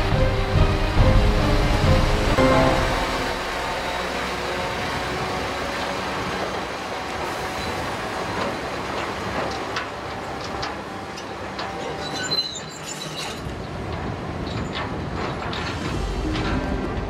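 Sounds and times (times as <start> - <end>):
heavy diesel machinery running: 0.0 - 12.0, 15.3 - 17.0.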